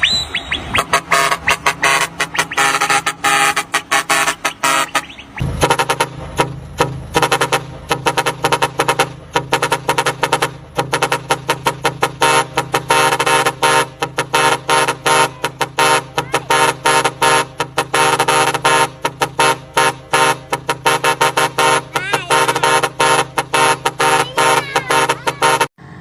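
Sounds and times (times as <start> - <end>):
truck musical horn blasts: 0.5 - 26.0.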